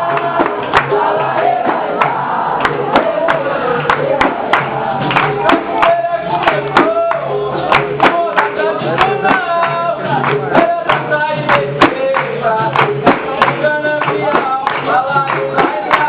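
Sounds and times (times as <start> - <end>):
sharp percussive strikes: 0.0 - 16.0
voices singing: 0.0 - 16.0.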